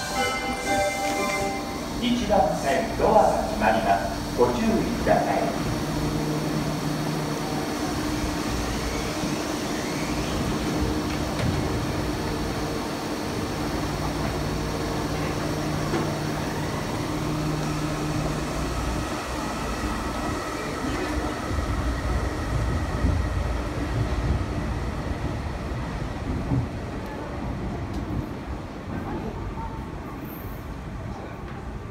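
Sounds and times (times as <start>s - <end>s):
train running rumble: 0.0s - 31.9s.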